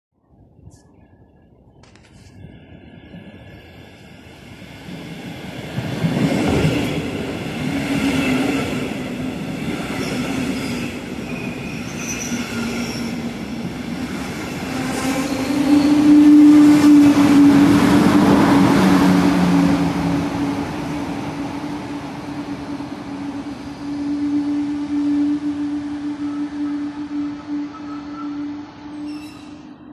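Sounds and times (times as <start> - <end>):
train wheels rumbling and squealing: 1.9 - 29.9.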